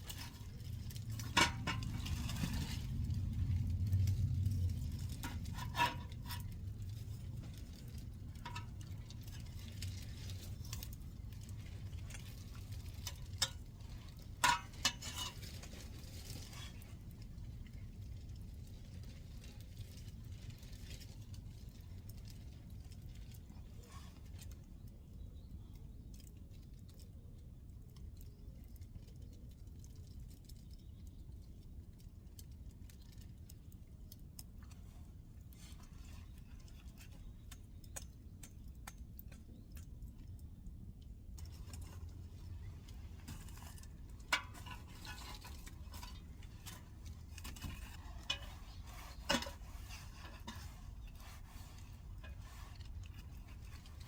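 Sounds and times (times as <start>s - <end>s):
low steady rumble: 0.0s - 54.0s
wood fire crackling: 0.0s - 54.0s.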